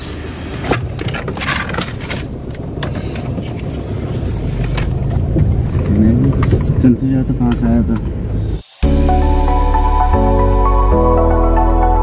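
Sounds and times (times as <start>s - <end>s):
car engine rumble: 0.0s - 11.4s.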